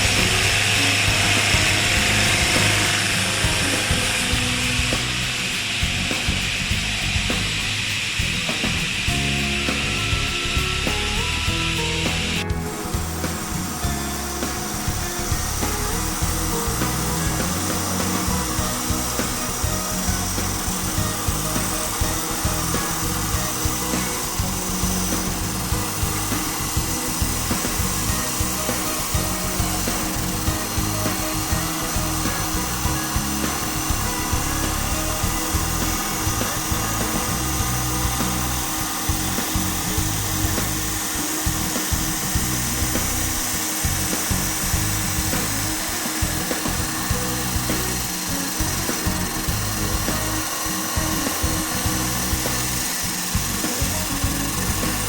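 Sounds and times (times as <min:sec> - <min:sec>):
background music: 0:00.0 - 0:55.0
wood lathe cutting: 0:00.0 - 0:55.0.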